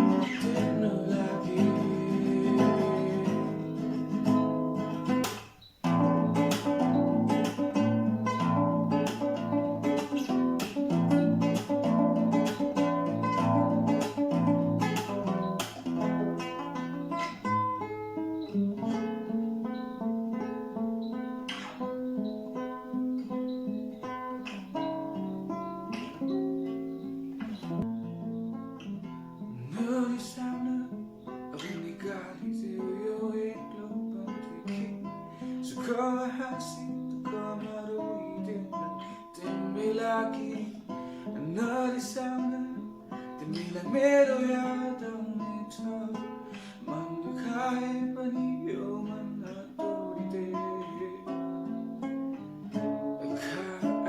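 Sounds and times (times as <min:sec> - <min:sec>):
acoustic guitar: 0:00.0 - 0:54.0.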